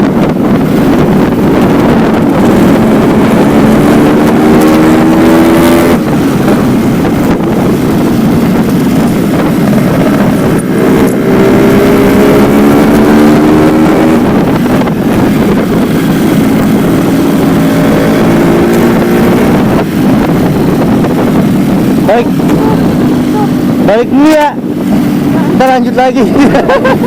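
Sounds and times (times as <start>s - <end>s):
two-stroke motorcycle engine accelerating: 0.0s - 27.0s
wind noise on microphone: 0.0s - 27.0s.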